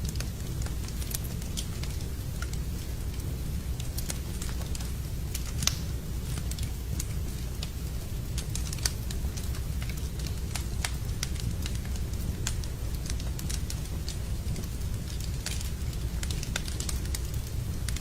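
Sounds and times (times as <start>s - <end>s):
fireplace fire crackling: 0.0s - 18.0s
low steady rumble: 0.0s - 18.0s.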